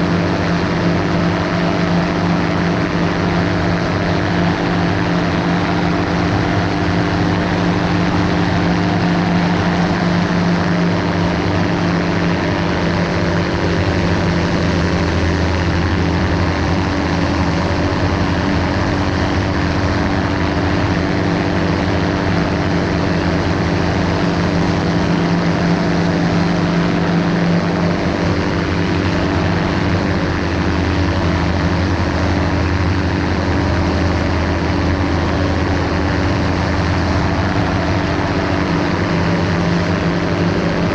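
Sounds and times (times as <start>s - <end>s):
ultralight aircraft engine droning: 0.0s - 40.9s.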